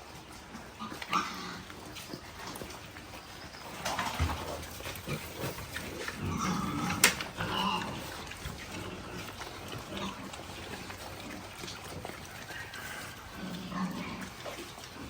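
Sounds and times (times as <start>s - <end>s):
pigs calling: 0.0s - 15.0s.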